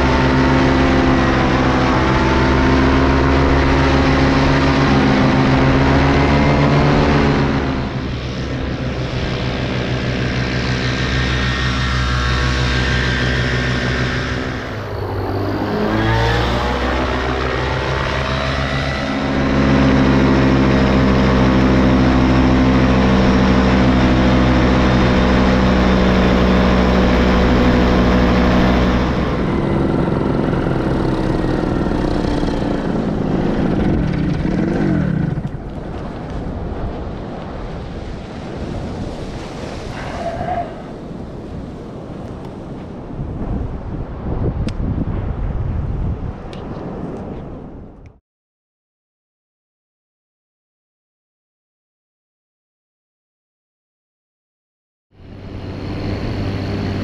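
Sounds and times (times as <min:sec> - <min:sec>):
paramotor engine and propeller: 0:00.0 - 0:48.2, 0:55.1 - 0:57.0.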